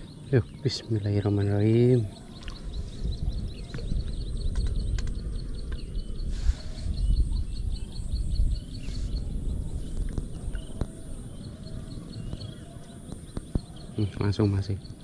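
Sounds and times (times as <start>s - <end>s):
bird chirping rapidly: 0.0s - 15.0s
wind rumbling on microphone: 0.0s - 15.0s.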